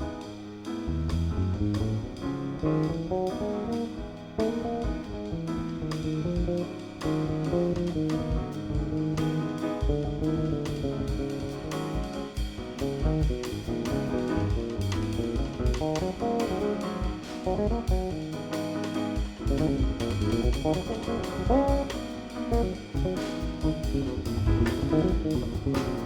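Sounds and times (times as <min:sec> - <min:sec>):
double bass: 0:00.0 - 0:18.6, 0:19.2 - 0:26.0
drum kit: 0:00.0 - 0:26.0
piano: 0:00.0 - 0:26.0.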